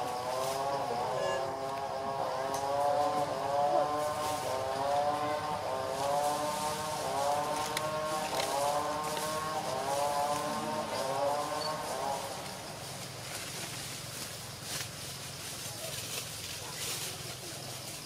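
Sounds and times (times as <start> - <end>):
motor engine humming: 0.0 - 18.0.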